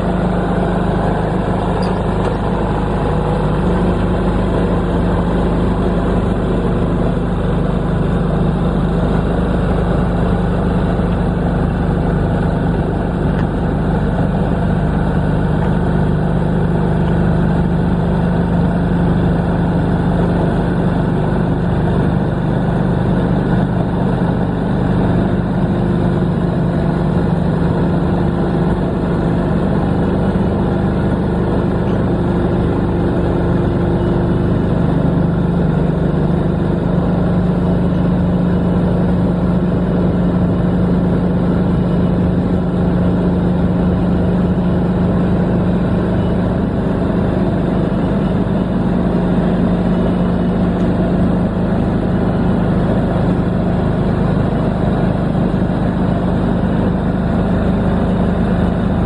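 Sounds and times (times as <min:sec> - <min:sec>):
diesel generator humming: 0:00.0 - 0:59.0.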